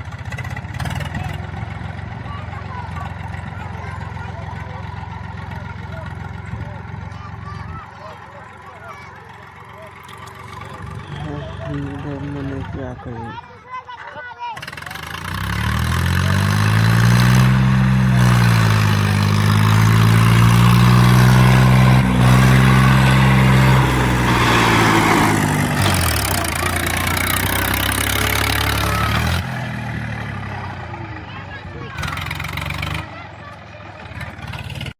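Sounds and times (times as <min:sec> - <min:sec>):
tractor diesel engine revving: 0:00.0 - 0:13.4, 0:14.6 - 0:34.9.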